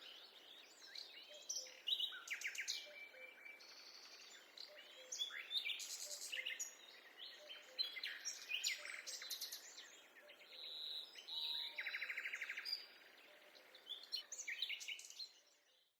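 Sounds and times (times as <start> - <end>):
songbirds chirping and whistling: 0.0 - 15.9.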